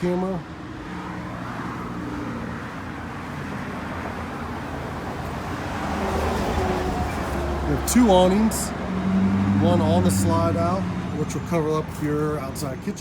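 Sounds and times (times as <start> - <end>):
road traffic and engine noise: 0.0 - 13.0.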